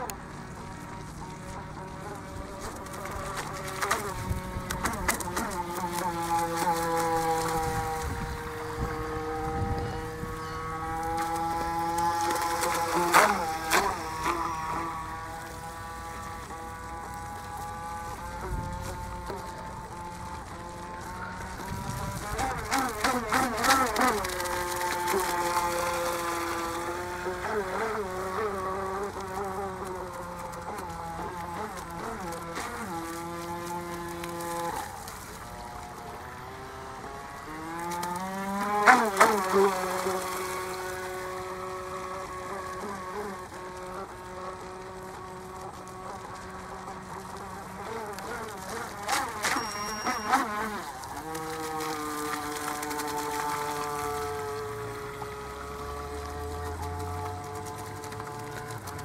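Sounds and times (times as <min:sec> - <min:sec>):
model boat electric motor whine: 0:00.0 - 0:59.0.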